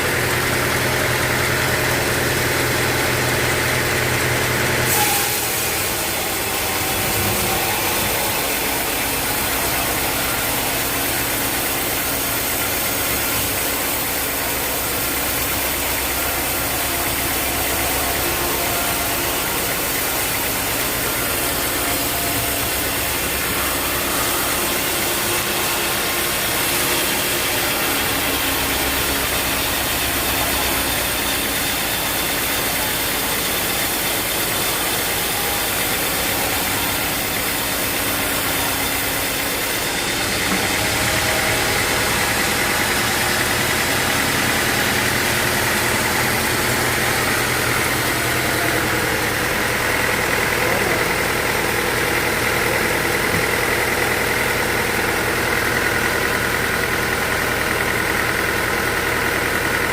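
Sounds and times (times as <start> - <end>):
sawmill machinery engine running: 0.0 - 59.9.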